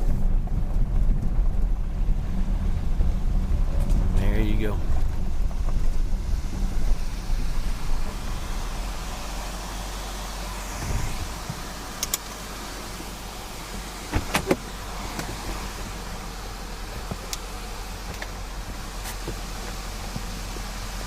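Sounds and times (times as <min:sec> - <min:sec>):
engine and tyre rumble: 0:00.0 - 0:21.0.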